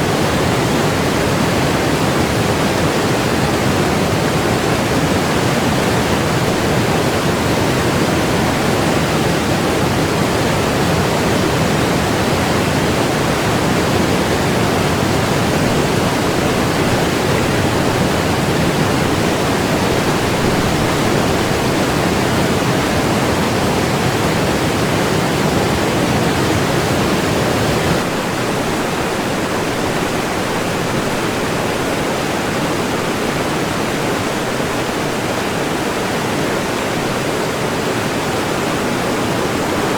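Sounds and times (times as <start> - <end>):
river rapids roaring: 0.0 - 39.9.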